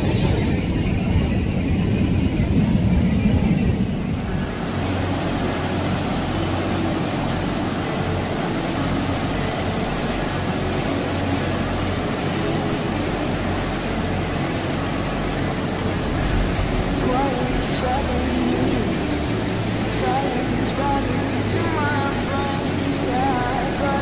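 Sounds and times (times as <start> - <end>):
waterfall roaring: 3.8 - 24.0.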